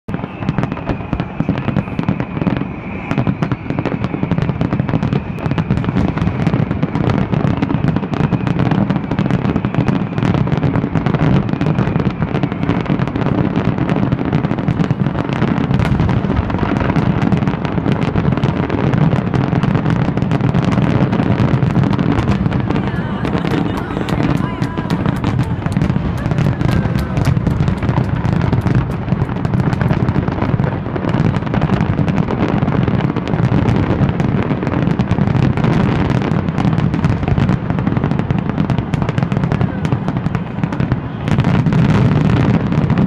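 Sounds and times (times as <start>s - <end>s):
fireworks bangs and crackling: 0.1s - 43.0s.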